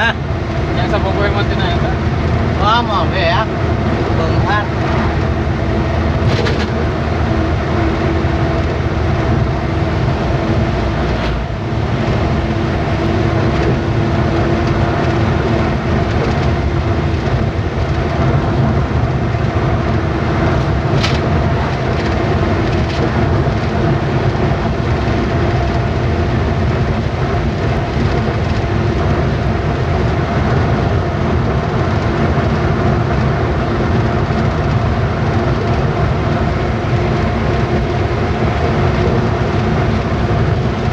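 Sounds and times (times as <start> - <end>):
low road rumble: 0.0 - 40.9
truck engine running: 0.0 - 40.9.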